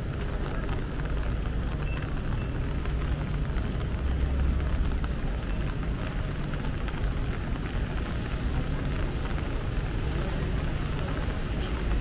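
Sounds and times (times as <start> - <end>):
rain on wet pavement: 0.0 - 12.0
road traffic rumble: 0.0 - 12.0.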